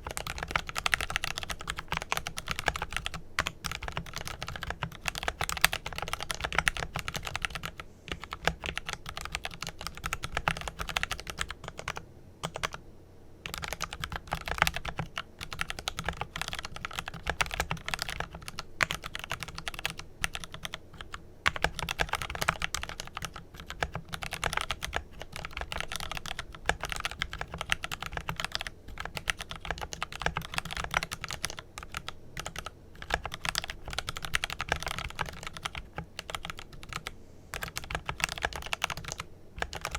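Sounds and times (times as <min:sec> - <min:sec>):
mechanical keyboard typing: 0:00.0 - 0:12.8, 0:13.4 - 0:39.9.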